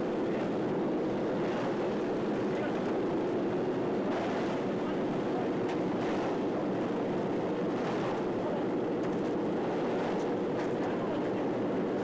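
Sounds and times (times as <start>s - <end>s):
propeller aircraft engine drone: 0.0s - 12.0s
rushing wind: 0.0s - 12.0s.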